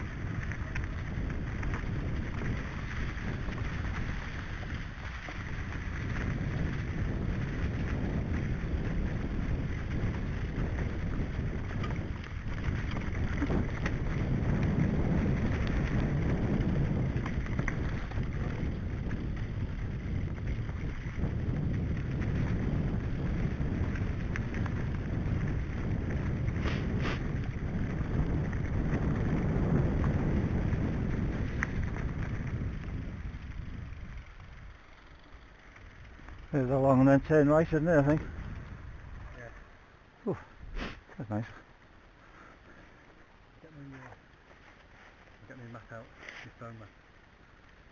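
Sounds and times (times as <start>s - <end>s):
wind buffeting microphone: 0.0s - 41.6s
bike tyres rumbling on dirt trail: 0.0s - 47.9s.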